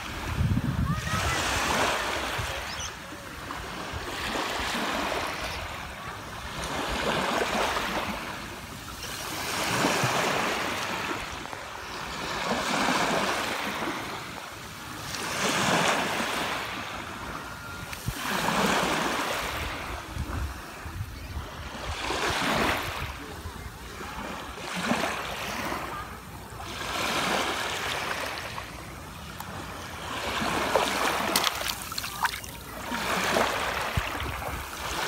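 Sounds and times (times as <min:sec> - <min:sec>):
small waves washing on sand: 0:00.0 - 0:21.0, 0:21.6 - 0:35.0.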